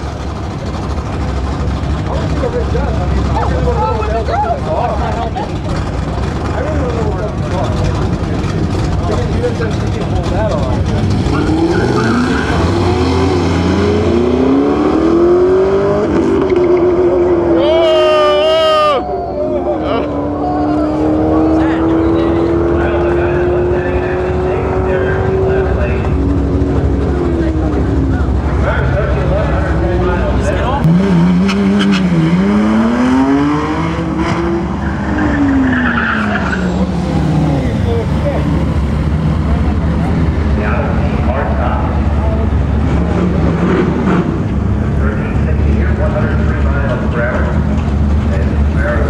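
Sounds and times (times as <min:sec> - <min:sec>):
drag car engines accelerating: 0:00.0 - 0:49.0.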